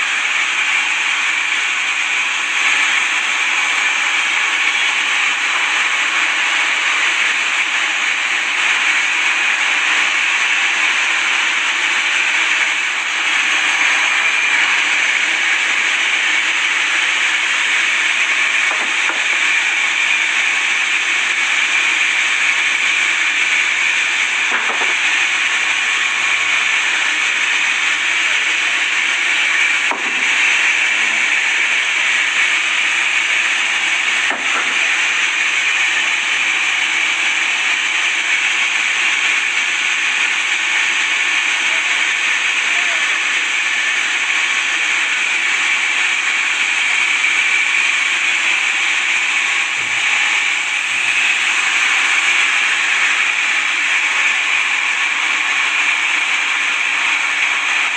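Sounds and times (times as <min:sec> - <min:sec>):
saw cutting through wood: 0:00.0 - 0:57.9.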